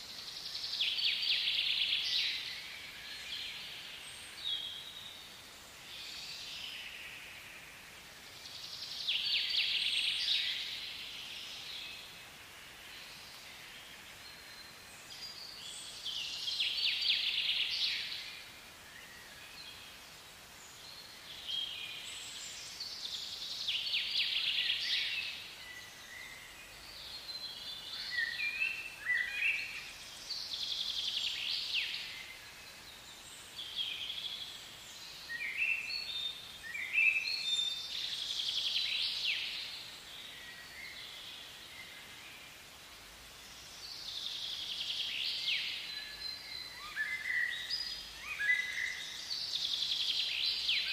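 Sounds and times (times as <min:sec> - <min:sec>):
faint forest hiss: 0:00.0 - 0:50.9.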